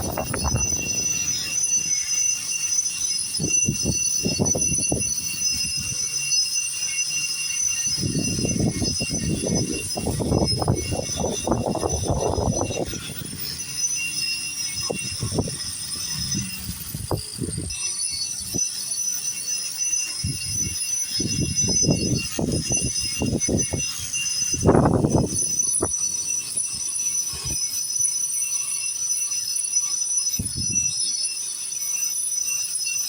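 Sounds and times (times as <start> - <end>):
angle grinder grinding concrete: 0.0 - 28.7.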